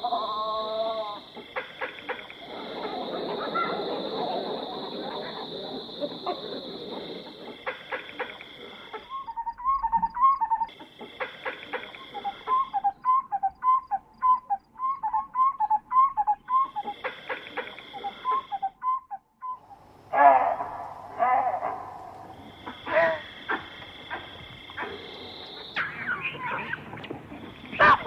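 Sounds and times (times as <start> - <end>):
harsh animal calls: 0.0 - 18.8, 20.1 - 28.0
insects buzzing: 0.0 - 28.0.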